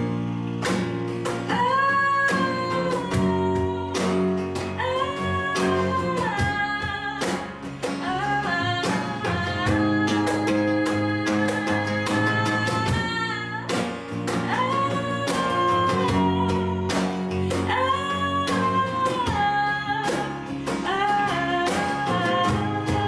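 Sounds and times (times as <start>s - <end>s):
acoustic guitar: 0.0s - 23.0s
bass: 0.0s - 23.0s
cajon beat: 0.0s - 23.0s.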